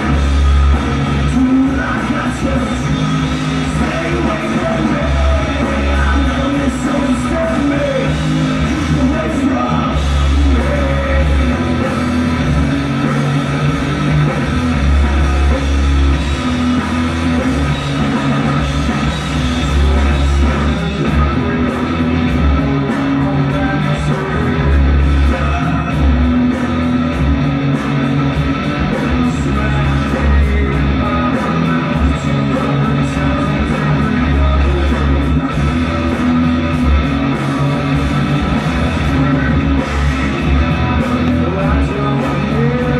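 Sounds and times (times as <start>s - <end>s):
drum kit: 0.0s - 42.9s
electric guitars: 0.0s - 42.9s
low bass notes: 0.0s - 42.9s.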